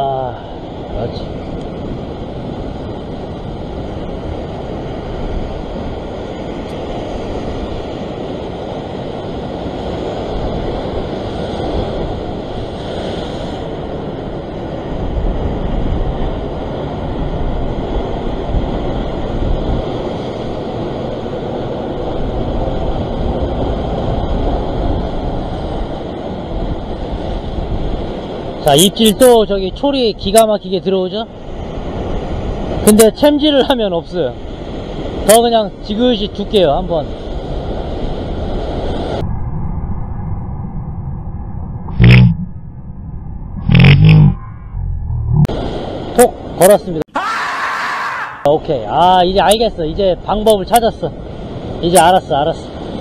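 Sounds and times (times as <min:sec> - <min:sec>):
wind rumbling on microphone: 0:00.0 - 0:47.0, 0:48.4 - 0:53.0.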